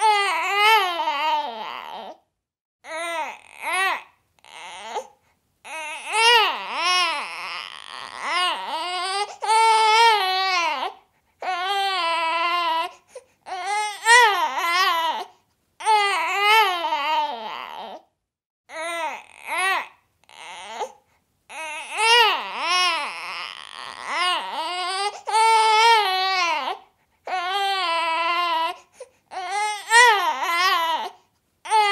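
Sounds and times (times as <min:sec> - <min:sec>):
baby whimpering and wailing: 0:00.0 - 0:18.1, 0:18.7 - 0:31.9.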